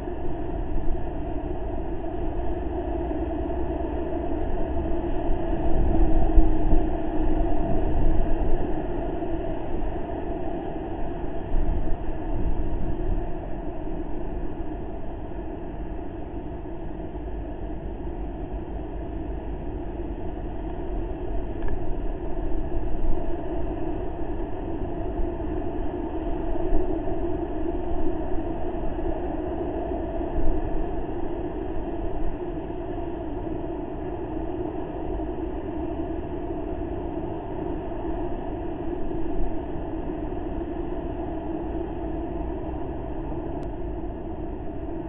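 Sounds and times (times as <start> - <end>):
faint hum: 0.0 - 45.0
low rumbling background noise: 0.0 - 45.0.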